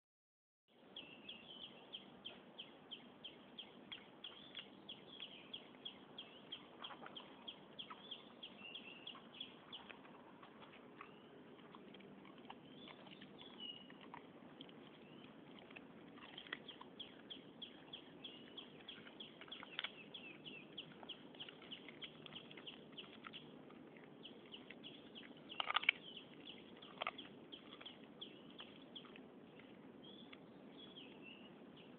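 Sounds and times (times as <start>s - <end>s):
small birds chirping: 0.7s - 31.9s.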